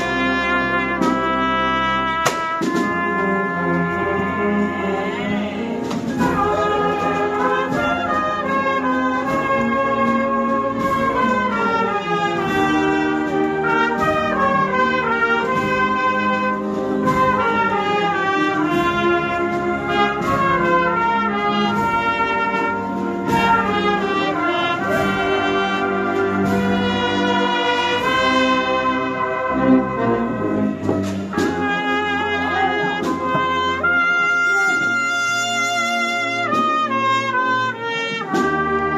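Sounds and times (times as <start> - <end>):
brass marching band playing: 0.0 - 38.9.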